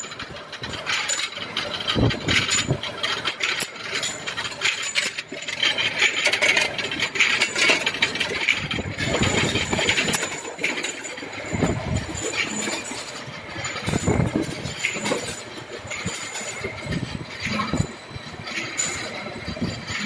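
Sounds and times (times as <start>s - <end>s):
metallic clicks and clinks: 0.0s - 20.0s.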